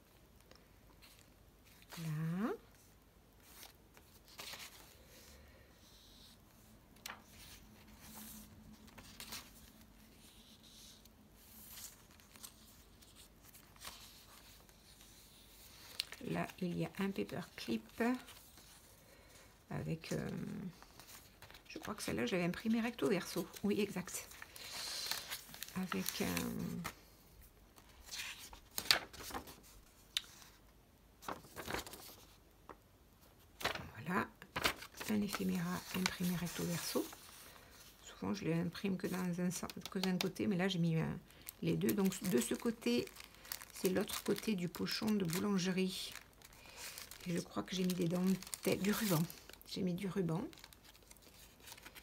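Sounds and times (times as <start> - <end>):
paper pages rustling: 2.7 - 19.4, 20.0 - 30.6, 31.2 - 38.0, 39.0 - 52.0.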